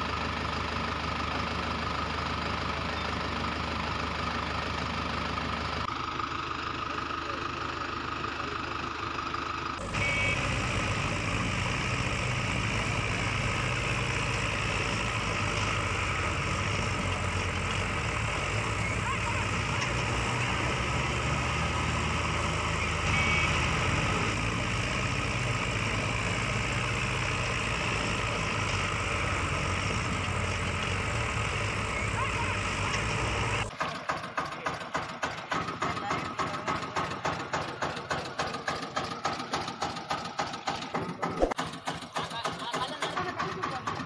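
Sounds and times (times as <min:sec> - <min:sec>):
vehicle engine idling: 0:00.0 - 0:44.0.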